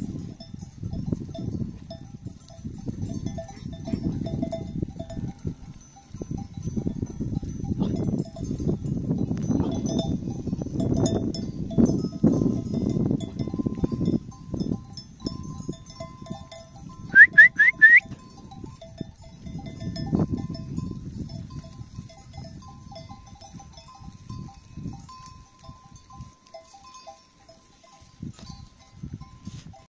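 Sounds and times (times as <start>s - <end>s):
sheep bells clinking: 0.0s - 29.9s.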